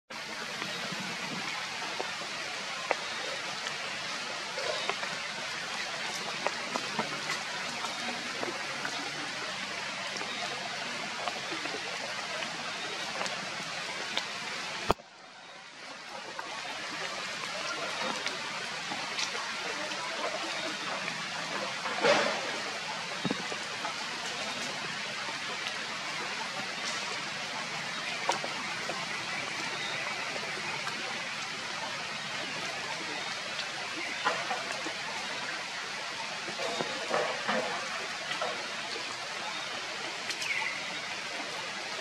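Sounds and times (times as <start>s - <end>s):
heavy rain falling: 0.1s - 42.0s.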